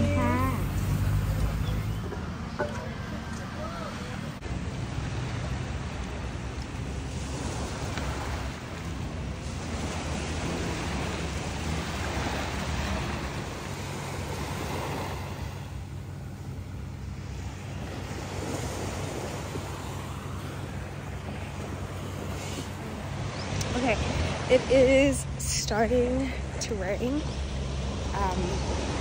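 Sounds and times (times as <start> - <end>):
small waves washing onto beach: 0.0 - 29.0.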